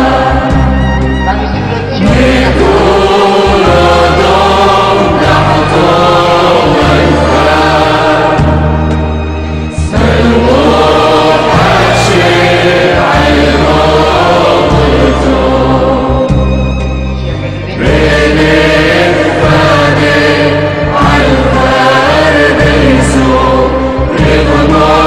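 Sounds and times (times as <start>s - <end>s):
choir singing slow music: 0.0s - 25.0s
low held chords: 0.0s - 25.0s.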